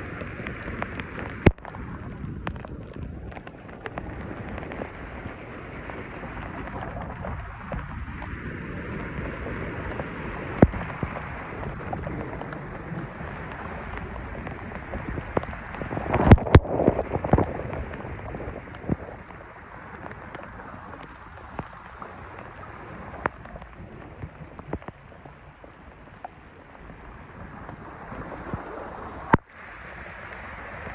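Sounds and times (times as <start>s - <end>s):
rain: 0.0s - 30.9s.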